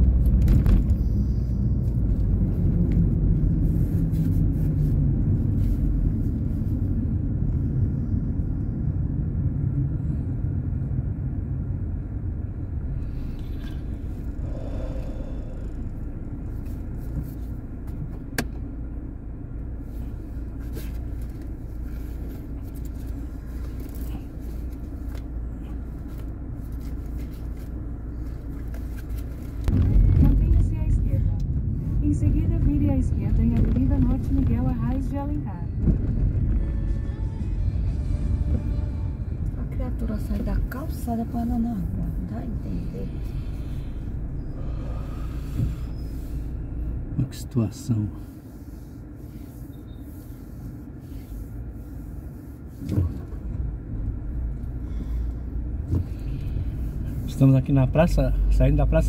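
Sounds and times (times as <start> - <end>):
car engine rumble and road noise: 0.0 - 59.0.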